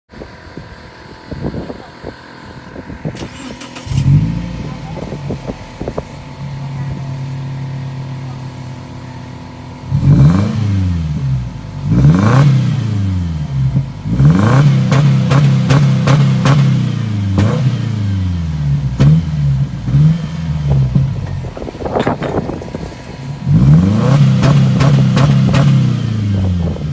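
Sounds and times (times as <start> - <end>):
car engine idling and revving: 0.1 - 26.9.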